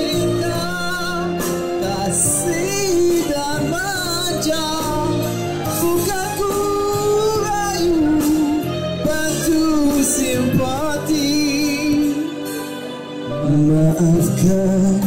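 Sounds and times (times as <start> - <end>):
instrumental backing: 0.0 - 15.0
person singing: 0.0 - 15.0.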